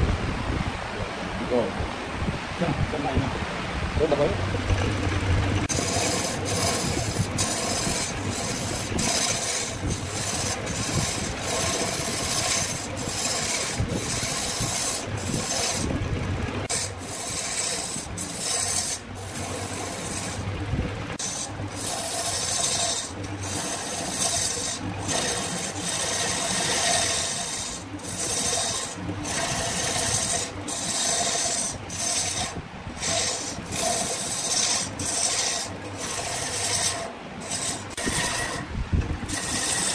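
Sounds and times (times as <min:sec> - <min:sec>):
tool scraping wood: 0:04.5 - 0:39.9.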